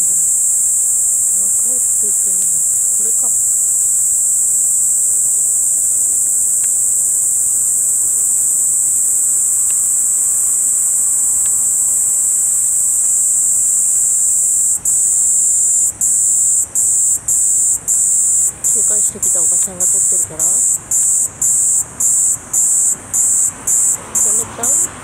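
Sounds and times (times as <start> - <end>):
cicada shrill buzzing: 0.0 - 25.0.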